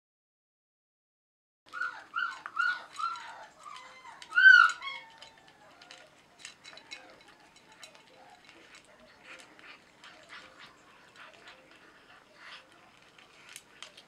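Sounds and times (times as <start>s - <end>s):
kibble eaten from steel bowl: 1.7s - 14.0s
puppy whining: 1.7s - 14.0s.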